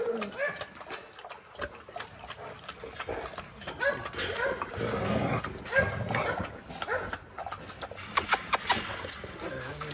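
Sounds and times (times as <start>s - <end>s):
dogs calling: 0.0s - 9.2s.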